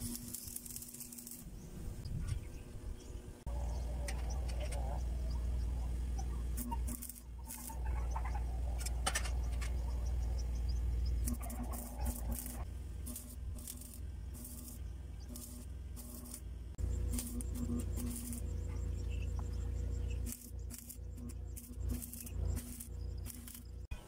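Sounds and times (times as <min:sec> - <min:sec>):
arc welding crackling: 0:00.0 - 0:02.0, 0:03.4 - 0:24.0
steady low hum: 0:00.0 - 0:24.0.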